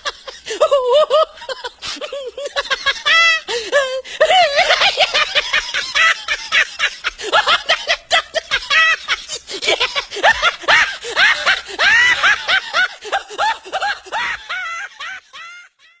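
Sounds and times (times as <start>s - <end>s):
high-pitched cackling laugh effect: 0.0s - 16.0s.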